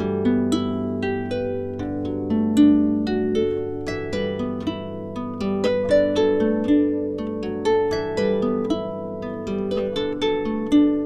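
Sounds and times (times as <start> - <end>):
plucked strings melody: 0.0 - 11.0.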